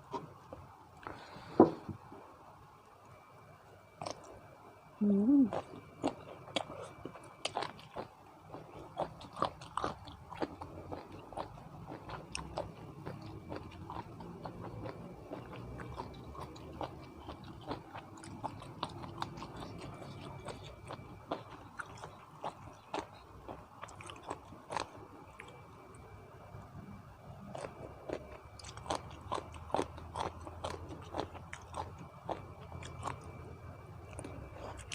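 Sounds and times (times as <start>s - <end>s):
person chewing crunchy food: 3.9s - 4.4s, 5.4s - 26.1s, 27.4s - 34.9s.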